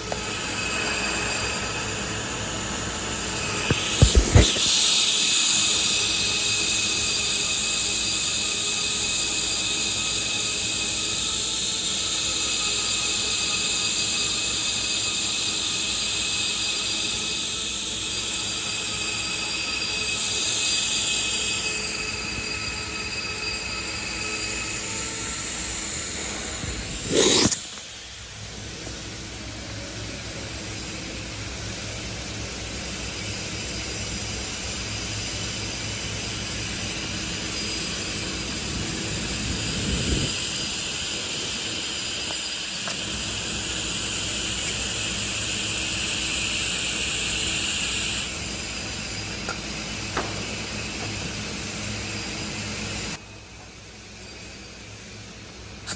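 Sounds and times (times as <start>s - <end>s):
welding arc hissing: 0.1s - 29.5s, 34.2s - 53.2s.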